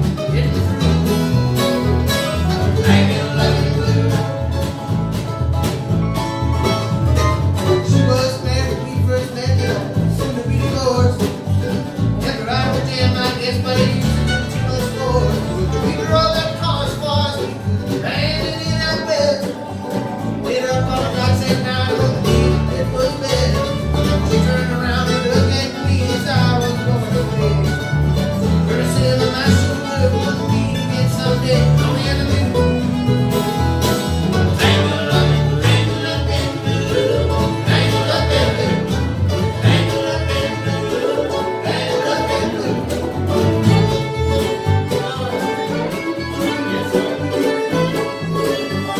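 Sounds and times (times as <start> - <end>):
bluegrass band playing: 0.0 - 48.9.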